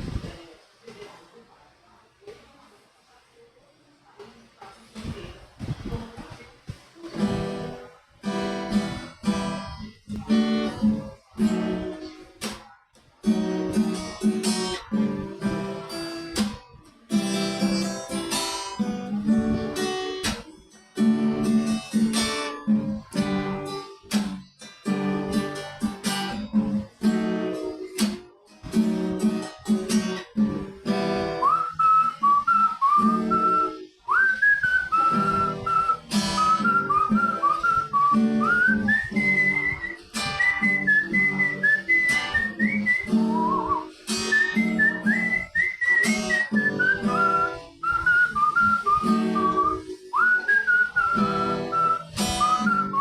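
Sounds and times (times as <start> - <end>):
acoustic guitar strumming chords: 7.0 - 53.0.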